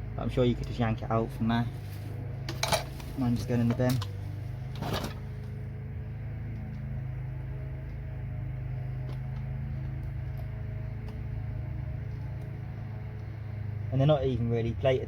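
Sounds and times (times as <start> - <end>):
low hum of fan or motor: 0.0 - 15.0.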